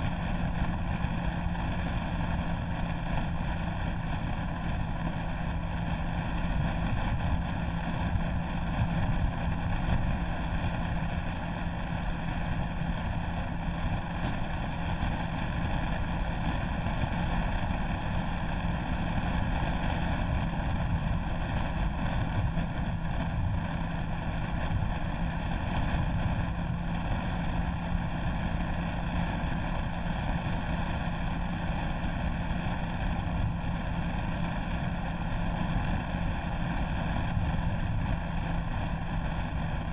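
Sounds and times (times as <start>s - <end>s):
motorcycle engine drone: 0.0s - 39.9s
wind rush over microphone: 0.0s - 39.9s.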